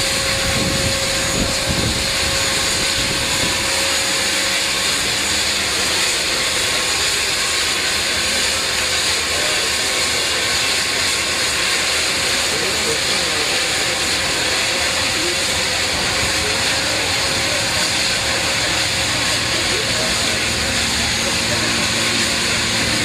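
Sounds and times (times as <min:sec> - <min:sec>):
seaplane engines droning: 0:00.0 - 0:23.0.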